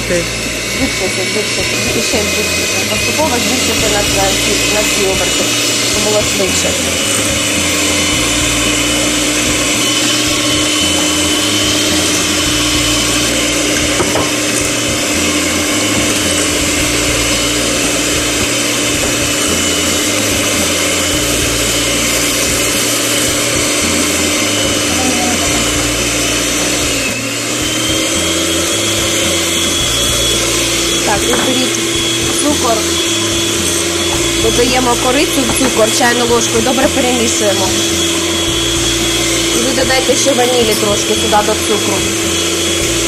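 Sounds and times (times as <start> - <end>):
electric hand mixer whining: 0.0 - 43.0.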